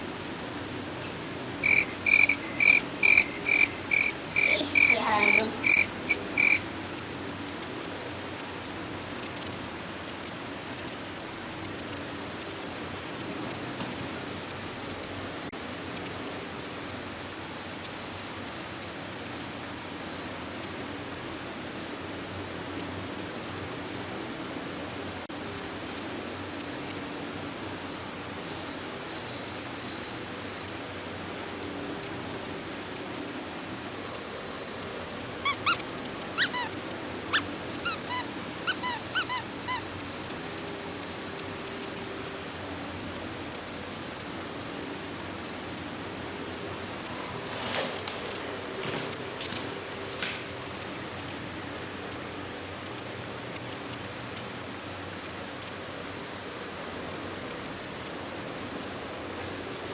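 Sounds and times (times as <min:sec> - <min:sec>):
insect chirping: 0:01.6 - 0:21.0, 0:22.1 - 0:30.9, 0:32.0 - 0:46.1, 0:46.9 - 0:56.1, 0:56.8 - 0:59.6.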